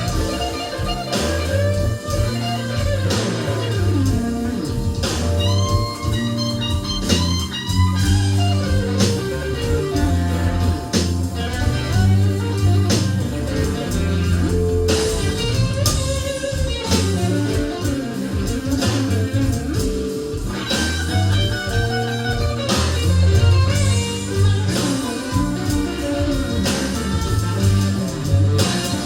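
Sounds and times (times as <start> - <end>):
blues guitar: 0.0 - 29.0
drums and cymbal hits: 0.0 - 29.0
walking bass line: 0.0 - 29.0.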